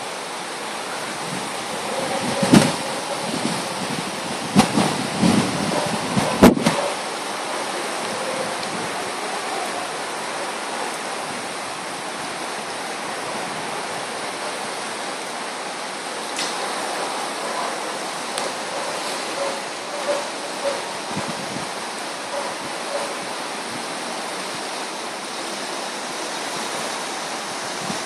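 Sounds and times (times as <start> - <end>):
river rushing over rapids: 0.0 - 28.0.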